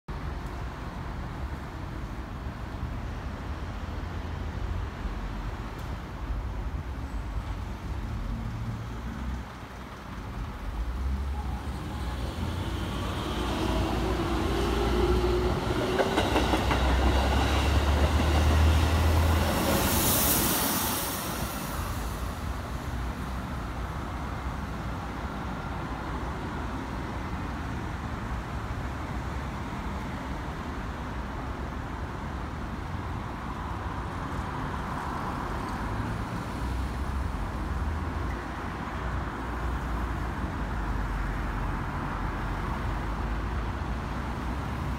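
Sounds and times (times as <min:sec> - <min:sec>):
rail and wheel noise: 0:00.1 - 0:44.9.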